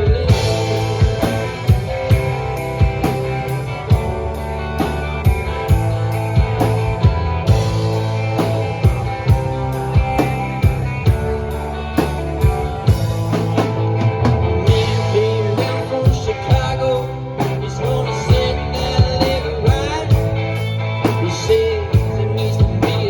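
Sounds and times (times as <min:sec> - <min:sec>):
bass and guitar: 0:00.0 - 0:23.0
drum kit beat: 0:00.0 - 0:23.0.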